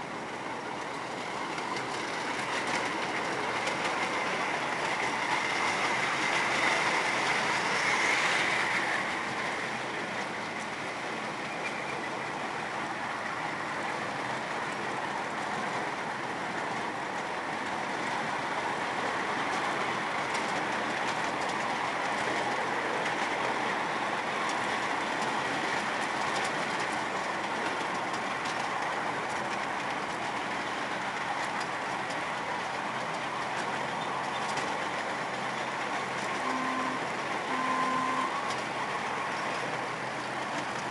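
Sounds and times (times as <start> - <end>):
miniature train wheels on rails: 0.0 - 40.9.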